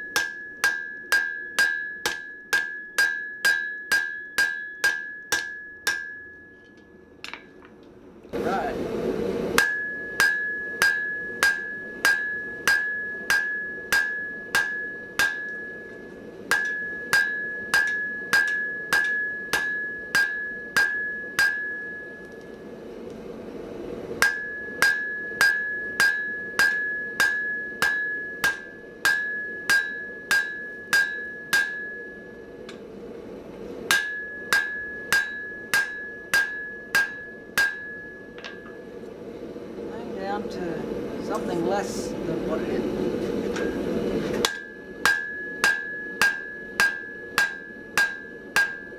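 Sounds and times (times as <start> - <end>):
hammer striking steel on anvil: 0.0 - 8.7, 9.6 - 22.6, 24.2 - 33.0, 33.6 - 39.1, 43.4 - 48.9.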